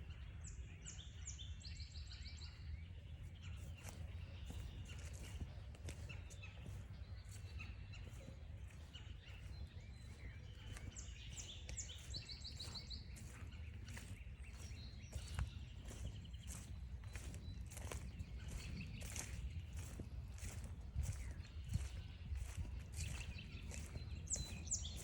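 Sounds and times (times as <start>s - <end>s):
songbirds calling and trilling: 0.0s - 25.0s
footsteps on a trail: 3.1s - 25.0s.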